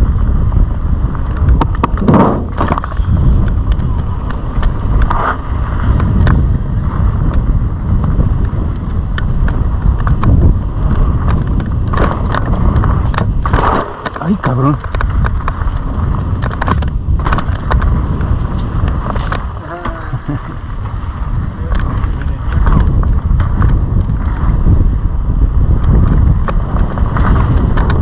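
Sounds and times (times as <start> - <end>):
bike clacking and rattling: 0.0 - 28.0
tyres on loose dirt: 0.0 - 28.0
wind buffeting microphone: 0.0 - 28.0.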